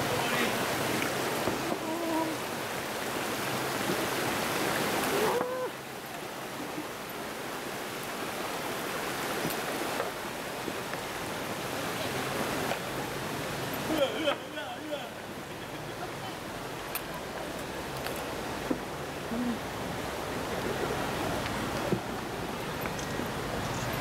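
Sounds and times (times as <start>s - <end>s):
stream flowing: 0.0s - 24.0s.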